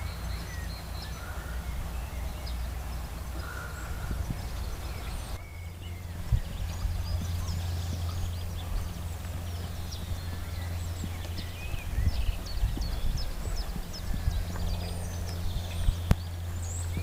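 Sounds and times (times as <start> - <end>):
horse hoofbeats cantering on sand: 0.0 - 17.0
low rumble: 0.0 - 17.0.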